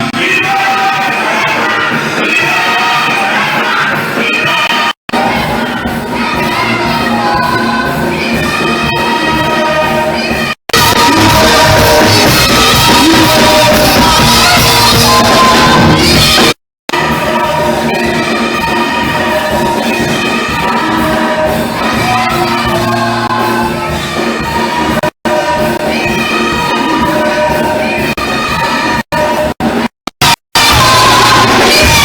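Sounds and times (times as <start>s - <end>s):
choir singing: 0.0s - 29.6s, 30.6s - 32.0s.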